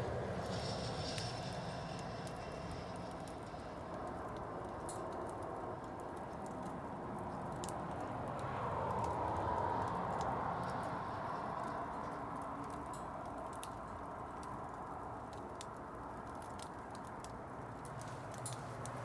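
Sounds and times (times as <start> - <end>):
bonfire flames rushing: 0.0 - 19.0
fire crackling and popping: 0.0 - 19.0.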